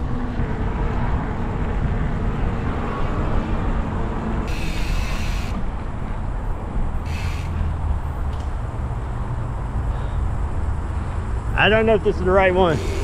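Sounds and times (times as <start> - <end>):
bike tyres rolling on road: 0.0 - 13.0
wind rushing over microphone: 0.0 - 13.0.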